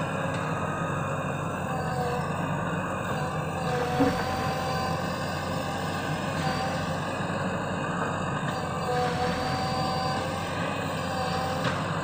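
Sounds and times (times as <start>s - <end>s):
backhoe diesel engine running: 0.0s - 12.0s.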